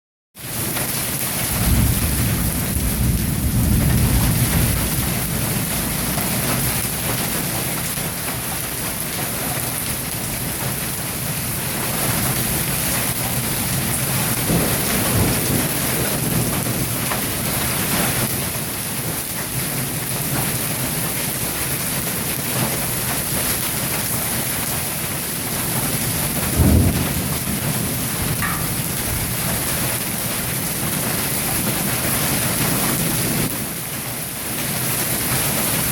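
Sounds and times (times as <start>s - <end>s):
hail and rain falling hard: 0.4s - 35.9s.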